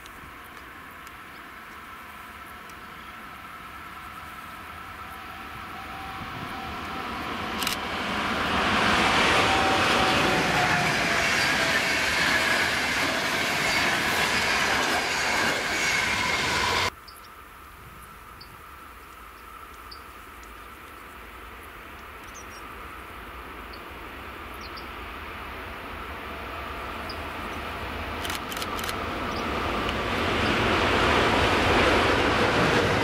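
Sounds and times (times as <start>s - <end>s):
distant freight train rumble: 0.0s - 17.0s, 21.0s - 33.0s
passenger train passing at speed: 0.0s - 17.0s, 21.0s - 33.0s.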